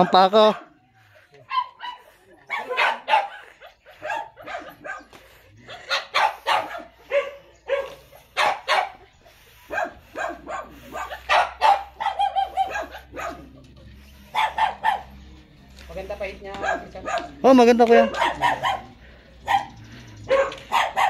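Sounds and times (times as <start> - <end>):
dogs barking and yipping: 0.0 - 21.0.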